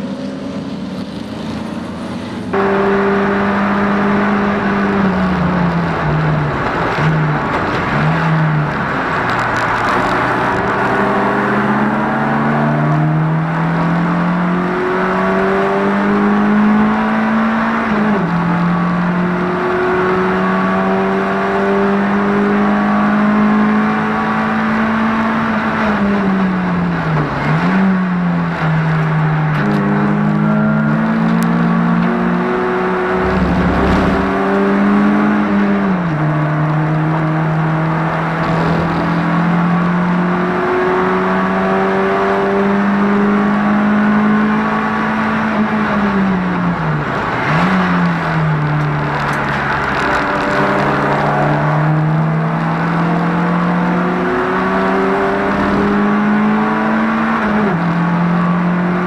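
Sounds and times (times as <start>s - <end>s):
car engine at high revs: 0.0s - 59.0s.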